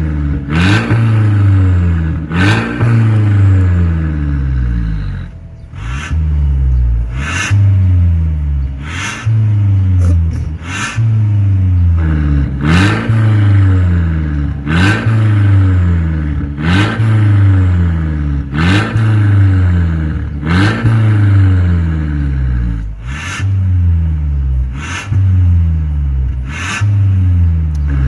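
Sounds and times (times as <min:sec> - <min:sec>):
car engine throttle blips: 0:00.0 - 0:28.0.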